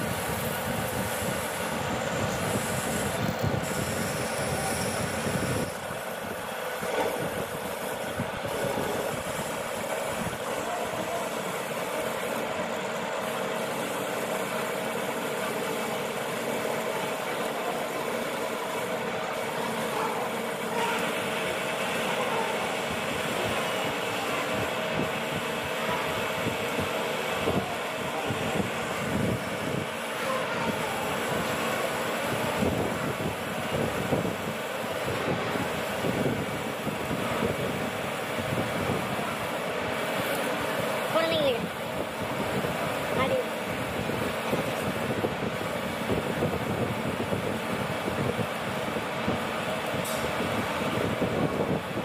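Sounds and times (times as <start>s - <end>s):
metal lathe machining: 0.0s - 52.0s.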